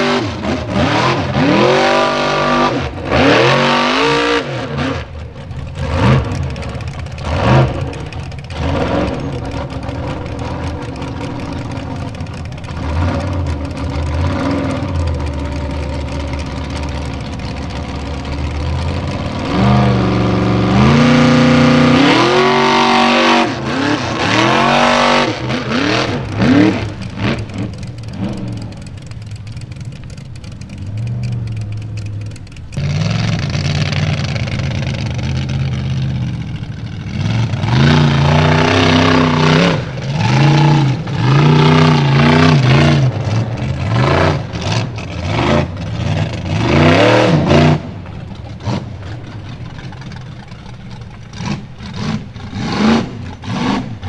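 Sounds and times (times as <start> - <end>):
buggy engines revving: 0.0 - 54.0.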